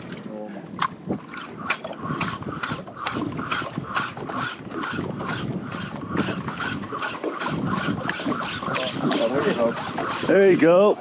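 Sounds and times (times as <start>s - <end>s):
fishing reel ticking whir: 0.8s - 11.0s.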